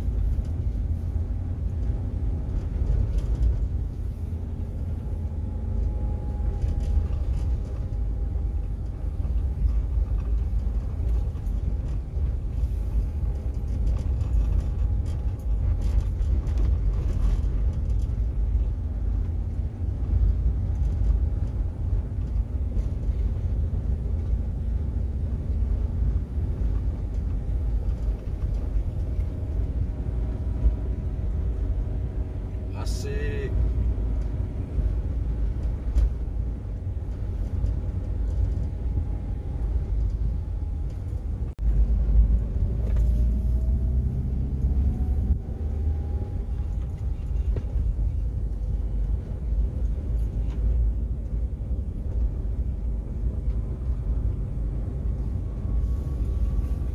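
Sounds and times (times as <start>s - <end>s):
faint engine hum: 0.0s - 56.9s
road and wind rumble: 0.0s - 56.9s.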